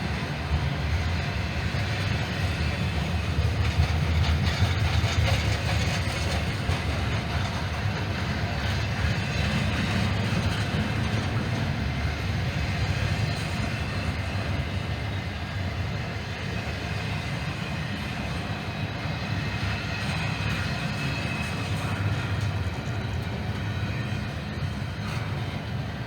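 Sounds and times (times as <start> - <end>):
train rolling past: 0.0 - 26.0.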